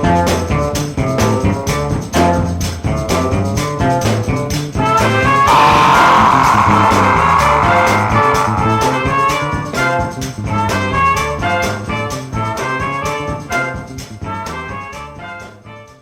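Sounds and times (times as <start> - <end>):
blues music with brass and drums: 0.0 - 16.0.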